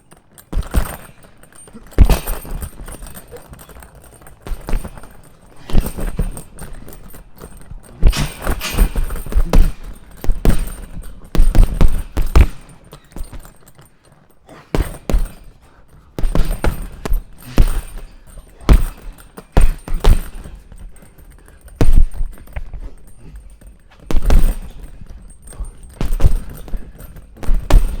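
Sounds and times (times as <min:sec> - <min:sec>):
punches on punching bag: 0:00.3 - 0:13.9, 0:14.5 - 0:28.0.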